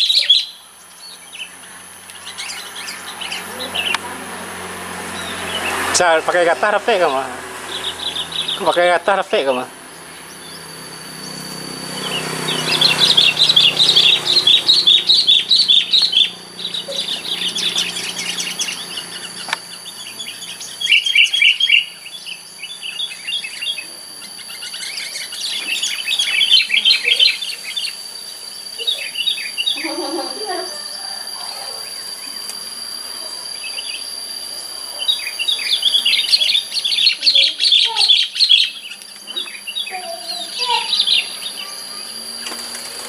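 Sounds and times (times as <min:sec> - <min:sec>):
birds chattering calls: 0:00.0 - 0:43.0.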